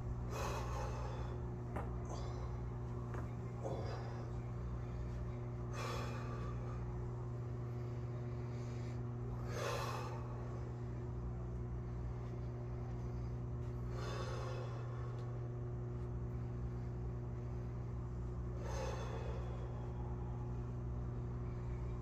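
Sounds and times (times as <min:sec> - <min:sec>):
steady low hum: 0:00.0 - 0:22.0
man breathing hard: 0:00.2 - 0:11.1, 0:11.8 - 0:15.7, 0:16.3 - 0:22.0.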